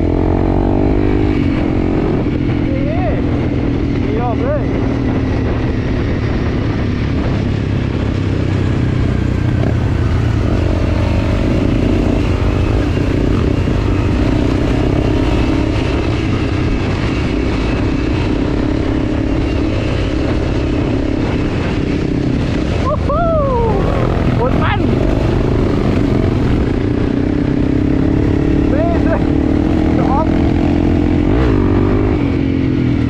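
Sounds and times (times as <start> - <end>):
motorcycle engine running: 0.0 - 33.0
road noise: 0.0 - 33.0
wind noise: 0.0 - 33.0.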